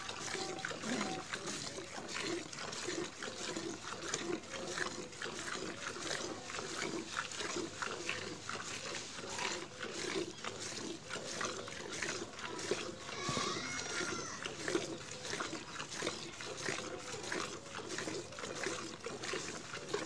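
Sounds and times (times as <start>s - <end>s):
milk squirting into steel bucket: 0.0s - 20.0s.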